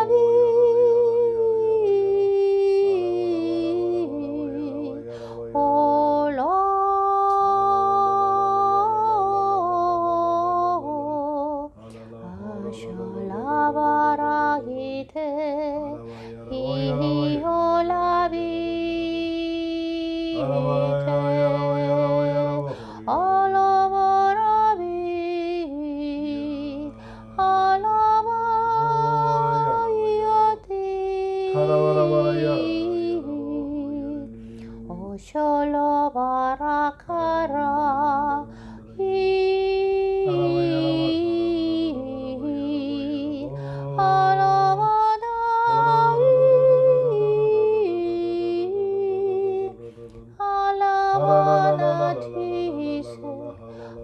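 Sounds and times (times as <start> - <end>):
woman singing with vibrato: 0.0 - 54.0.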